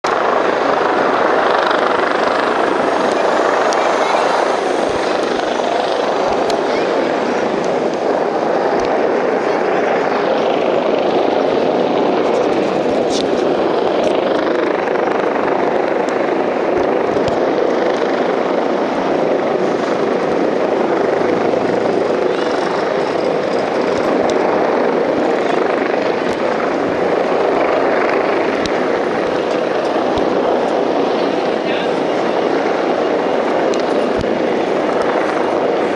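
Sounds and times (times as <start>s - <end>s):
helicopter flying low overhead: 0.0s - 35.9s.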